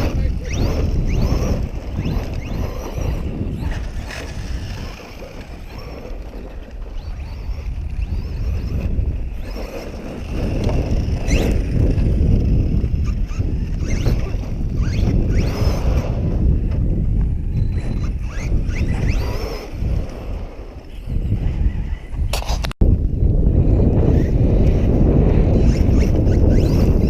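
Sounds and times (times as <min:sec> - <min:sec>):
electric motor whining: 0:00.0 - 0:22.7, 0:23.6 - 0:27.0
wind rumble on microphone: 0:00.0 - 0:27.0.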